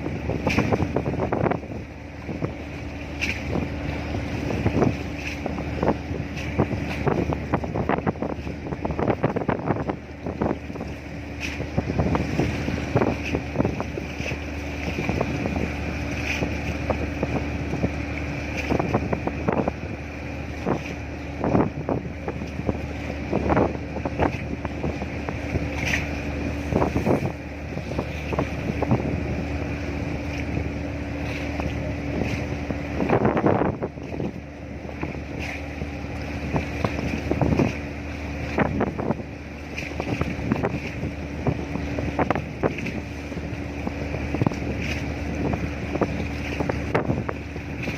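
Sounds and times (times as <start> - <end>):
ship engine drone: 0.0 - 47.9
wind buffeting microphone: 0.0 - 47.9.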